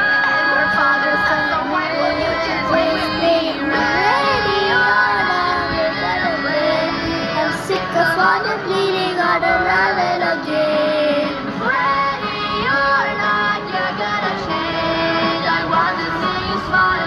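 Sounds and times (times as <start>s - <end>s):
backing track music: 0.0s - 17.0s
girl singing: 0.0s - 17.0s.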